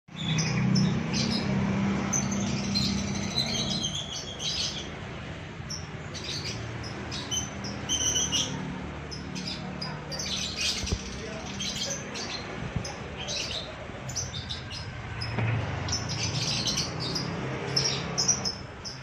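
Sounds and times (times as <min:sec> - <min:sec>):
birds chirping: 0:00.1 - 0:19.0.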